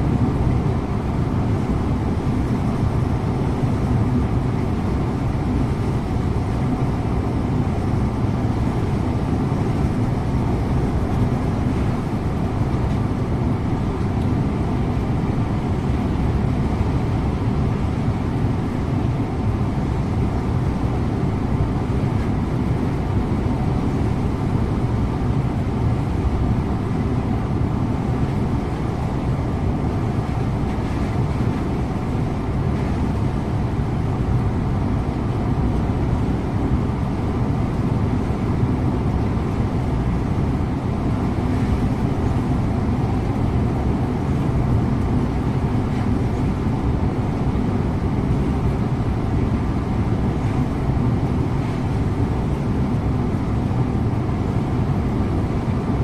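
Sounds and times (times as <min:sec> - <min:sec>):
coach engine drone: 0:00.0 - 0:56.0.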